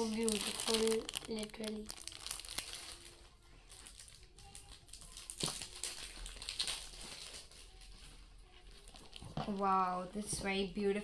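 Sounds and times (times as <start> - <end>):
plastic packaging rustling: 0.0 - 10.1
faint music: 0.0 - 11.0.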